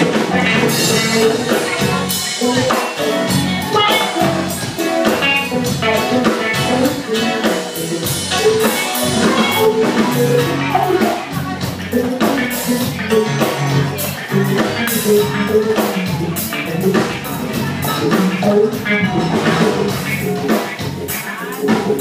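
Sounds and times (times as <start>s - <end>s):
drum kit: 0.0s - 22.0s
guitar playing: 0.0s - 22.0s.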